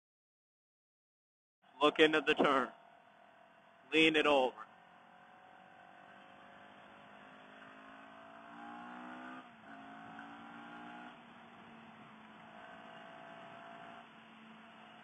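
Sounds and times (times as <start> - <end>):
motorcycle engine accelerating: 1.7 - 15.0.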